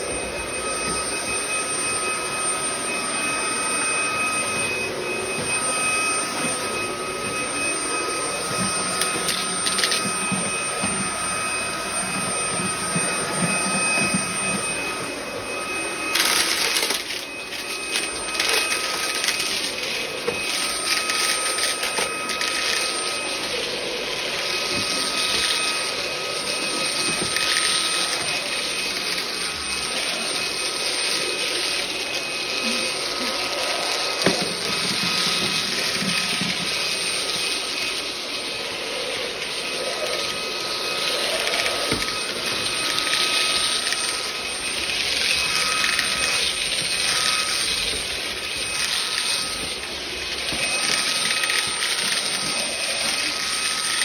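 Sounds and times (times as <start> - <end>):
rushing suction noise: 0.0 - 54.0
vacuum motor whine: 0.0 - 54.0.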